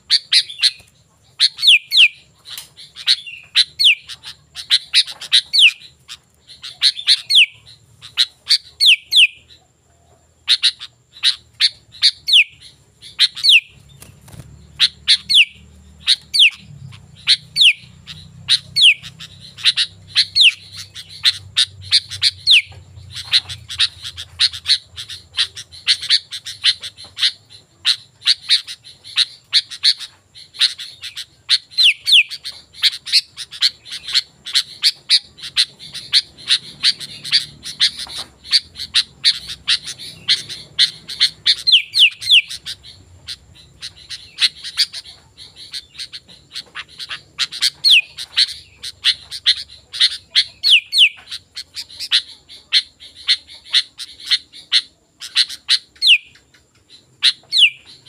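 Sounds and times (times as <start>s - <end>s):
bird chirping rapidly: 0.0s - 9.7s, 10.3s - 58.0s.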